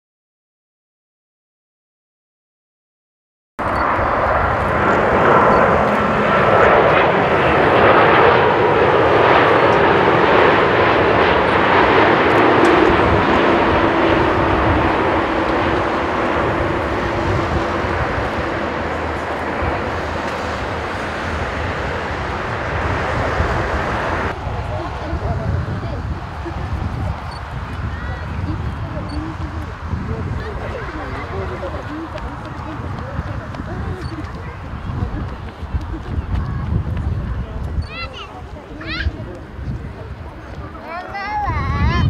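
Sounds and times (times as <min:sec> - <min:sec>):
jet engines roaring with whine: 0:03.6 - 0:42.0.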